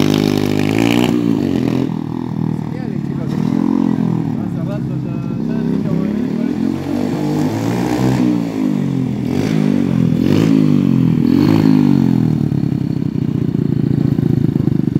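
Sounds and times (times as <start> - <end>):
go-kart engine revving: 0.0 - 14.9.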